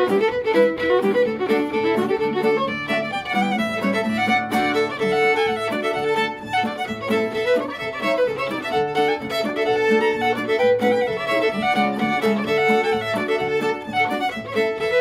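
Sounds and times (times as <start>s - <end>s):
fiddle playing a reel: 0.0s - 15.0s
guitar strumming: 0.0s - 15.0s.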